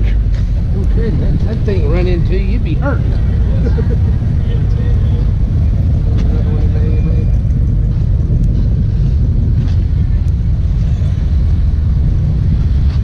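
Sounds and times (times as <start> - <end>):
low rumble of car engines: 0.0 - 13.0
wind buffeting microphone: 0.0 - 13.0.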